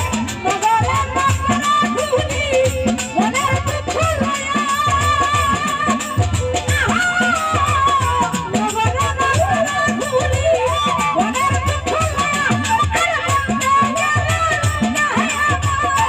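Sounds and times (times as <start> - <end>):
steady drum beat: 0.0 - 16.0
woman singing into microphone: 0.0 - 16.0.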